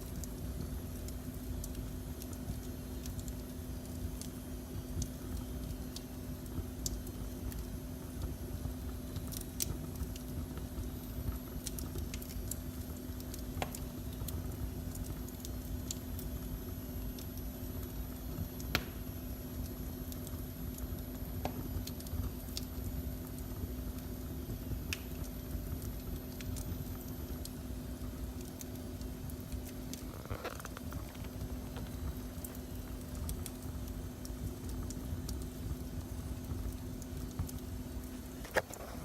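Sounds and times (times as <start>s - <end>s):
faint hum: 0.0s - 39.0s
fire pops: 0.0s - 39.0s
wood fire crackling: 0.0s - 39.0s.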